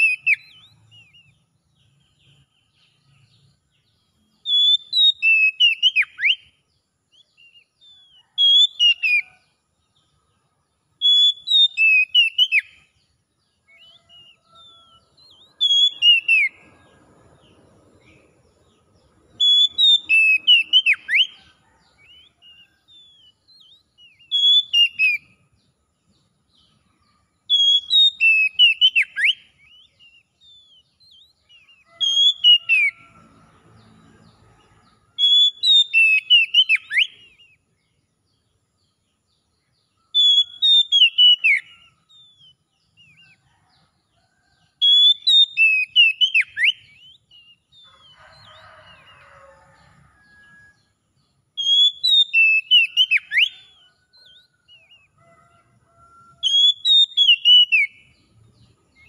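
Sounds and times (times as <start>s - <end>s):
bird singing whistled notes: 0.0s - 9.4s, 11.0s - 16.8s, 17.4s - 33.1s, 35.2s - 37.7s, 38.9s - 43.4s, 44.8s - 49.4s, 51.5s - 55.4s, 56.4s - 58.3s.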